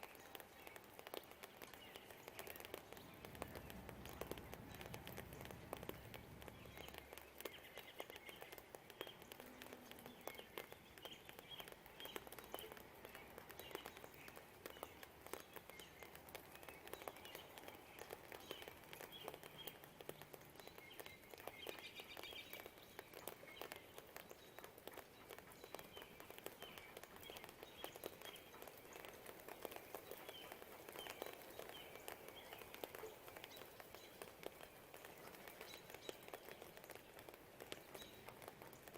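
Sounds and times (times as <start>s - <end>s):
light rain pattering: 0.0s - 38.9s
small birds chirping: 0.0s - 38.9s.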